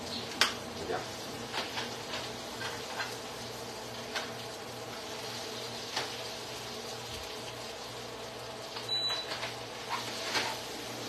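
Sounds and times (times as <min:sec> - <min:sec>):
kitchen appliance buzzing hum: 0:00.0 - 0:11.0.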